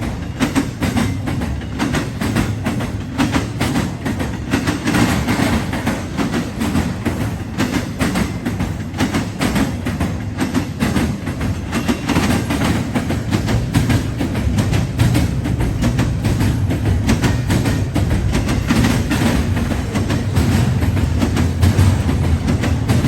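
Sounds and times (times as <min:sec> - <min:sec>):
train low rumble: 0:00.0 - 0:23.0
train wheels clattering over rail joints: 0:00.0 - 0:23.0.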